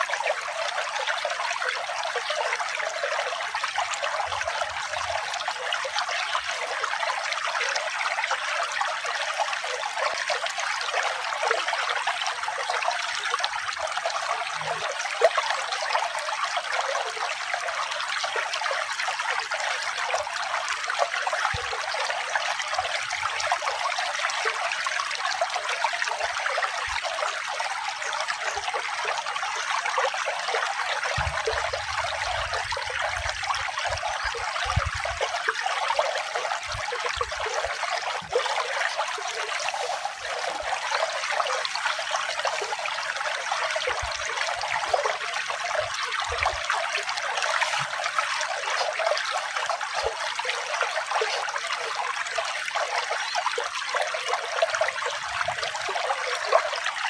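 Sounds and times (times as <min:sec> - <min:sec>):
water trickling and splashing: 0:00.0 - 0:57.0.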